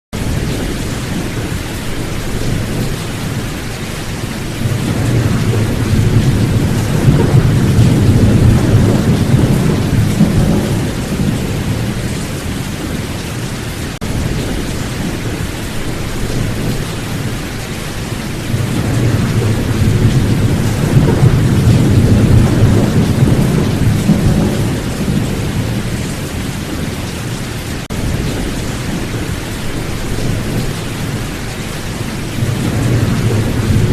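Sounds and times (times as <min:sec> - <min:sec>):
steady rain: 0:00.1 - 0:33.9
thunder rumbling: 0:00.2 - 0:33.9.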